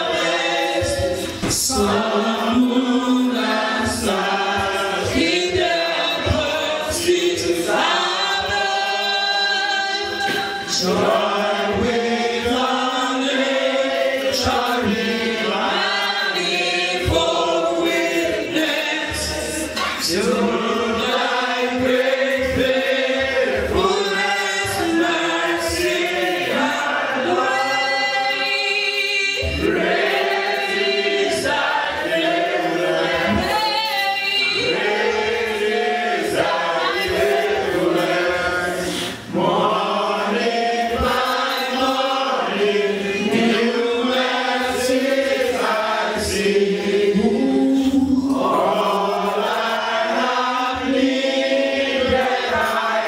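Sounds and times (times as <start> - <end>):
congregation singing a hymn: 0.0 - 53.0.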